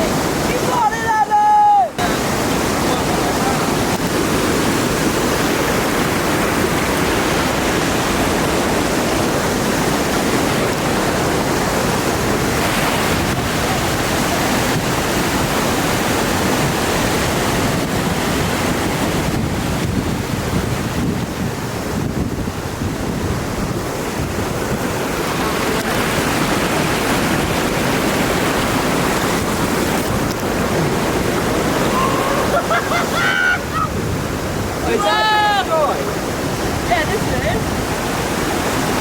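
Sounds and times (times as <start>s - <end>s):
small waterfall rushing: 0.0s - 39.0s
wind buffeting microphone: 2.0s - 39.0s.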